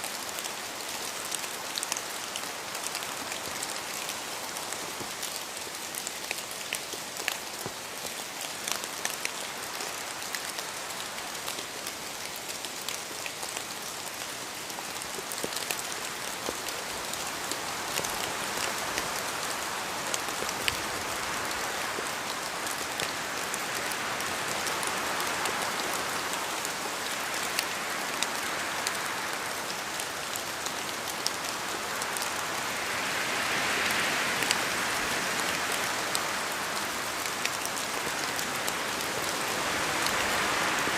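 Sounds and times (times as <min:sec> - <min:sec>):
rain falling in a forest: 0:00.0 - 0:40.9.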